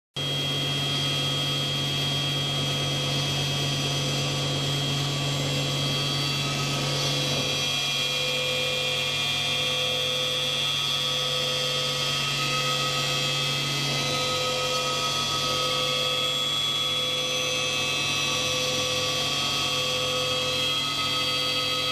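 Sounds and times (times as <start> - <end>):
electric motor humming with whine: 0.2 - 21.9.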